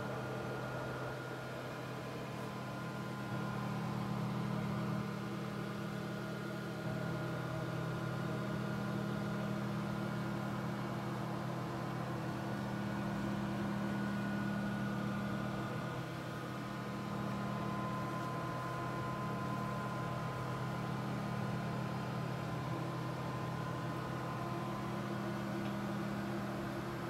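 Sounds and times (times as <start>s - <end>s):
laser equipment humming: 1.8s - 27.0s.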